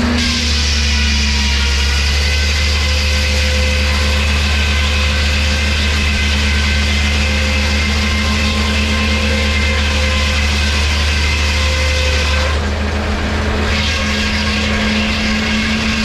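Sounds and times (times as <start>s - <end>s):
engine humming steadily: 0.0s - 16.0s.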